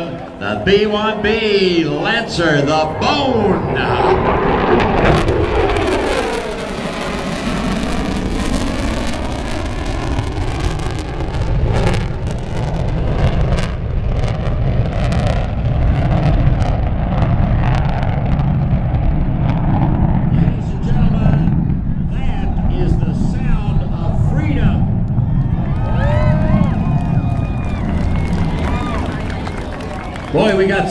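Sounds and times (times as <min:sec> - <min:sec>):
deep jet rumble: 0:00.0 - 0:30.9
jet roar in flyby: 0:00.0 - 0:30.9.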